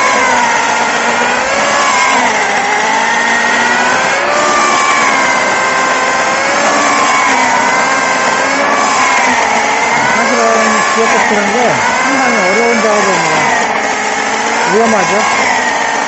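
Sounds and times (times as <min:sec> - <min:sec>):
electric chainsaw cutting wood: 0:00.0 - 0:16.0.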